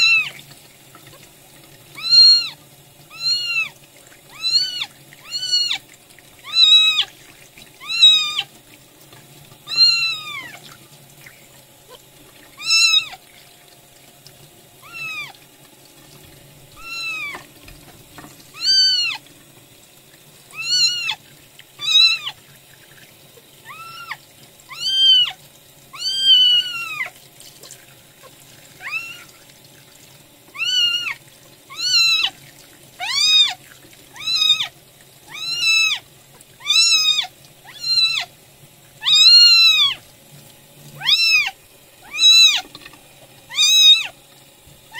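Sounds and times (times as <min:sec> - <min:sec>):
tap water running: 0:00.0 - 0:44.9.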